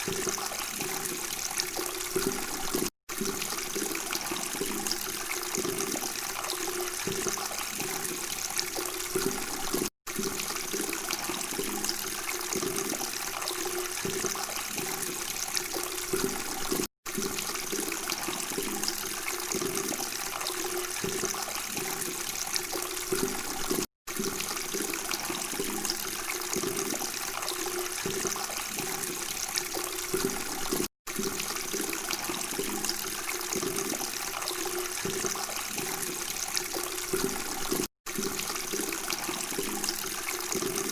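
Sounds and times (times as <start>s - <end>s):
water flowing and gurgling: 0.0s - 40.9s.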